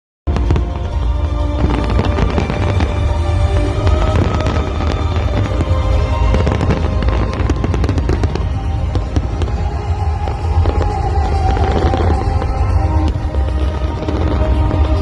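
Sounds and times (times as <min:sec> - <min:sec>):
fireworks crackling bursts: 0:00.3 - 0:15.0
loud music with heavy bass: 0:00.3 - 0:15.0.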